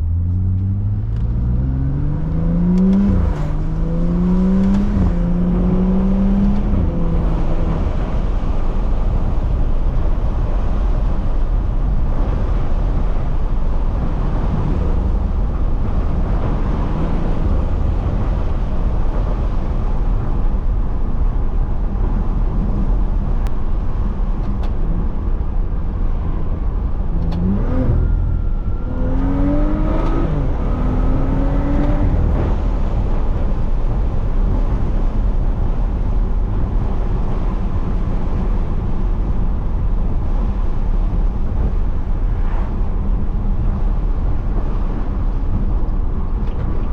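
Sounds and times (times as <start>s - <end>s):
car engine accelerating: 0.0s - 46.9s
road noise: 0.0s - 46.9s.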